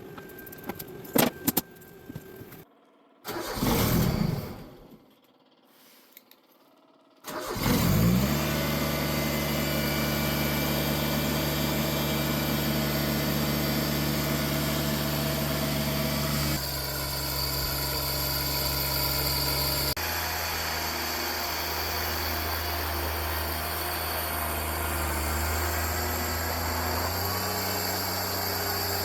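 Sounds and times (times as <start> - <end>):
gas engine starting and running: 3.2 - 29.0.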